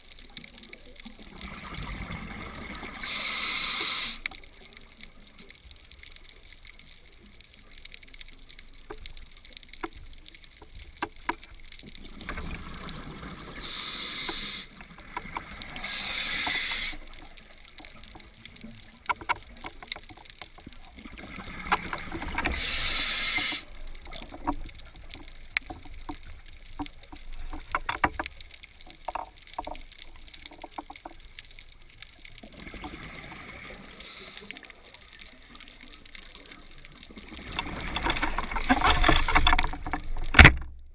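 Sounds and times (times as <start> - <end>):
low underwater hiss: 0.0 - 40.4.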